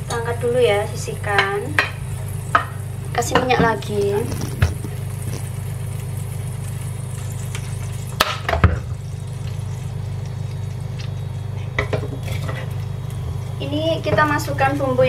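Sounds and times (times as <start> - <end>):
low electrical hum: 0.0 - 15.0
oil heating quietly: 0.0 - 15.0.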